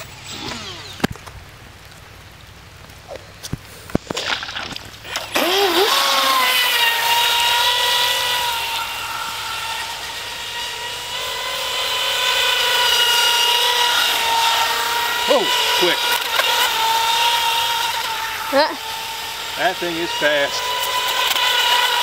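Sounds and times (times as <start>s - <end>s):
electric motor whine: 0.0s - 1.7s, 5.0s - 22.0s.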